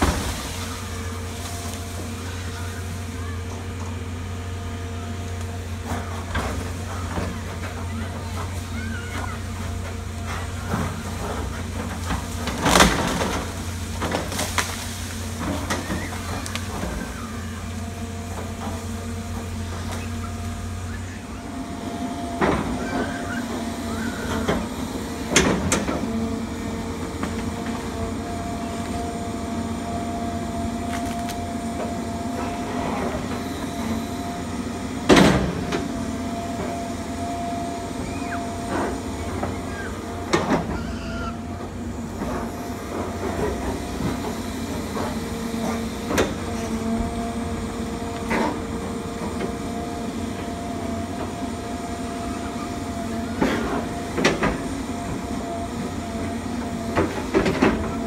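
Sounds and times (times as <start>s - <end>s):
excavator diesel engine droning: 0.0s - 58.0s.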